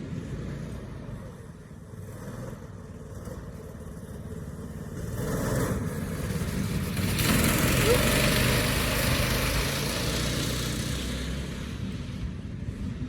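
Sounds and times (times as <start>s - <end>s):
small race car engine droning: 0.0s - 12.5s.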